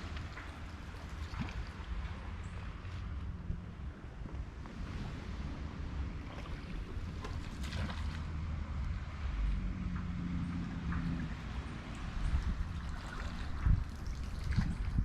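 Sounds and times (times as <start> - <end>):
light water splashing: 0.0 - 15.0
river water washing: 0.0 - 15.0
wind rumbling on microphone: 0.0 - 15.0.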